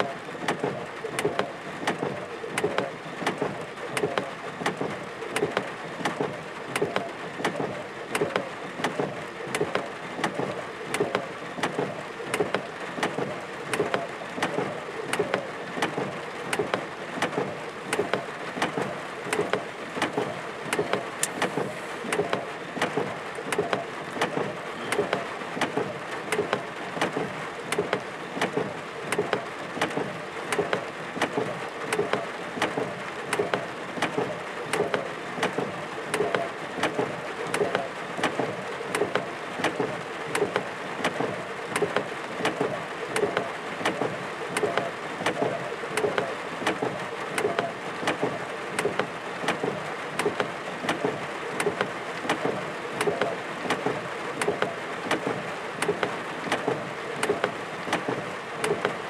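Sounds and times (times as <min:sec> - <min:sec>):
raindrops striking hard surface: 0:00.0 - 0:59.0
steady rain hiss: 0:00.2 - 0:59.0.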